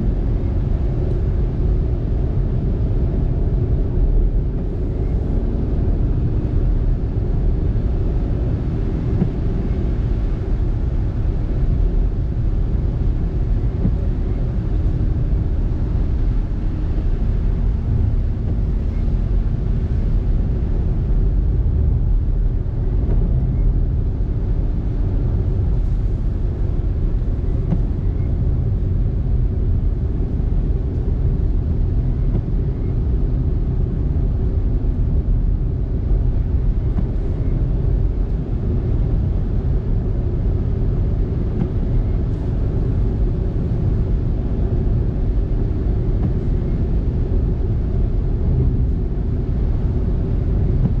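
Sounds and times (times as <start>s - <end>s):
road and tyre noise in car: 0.0s - 51.0s.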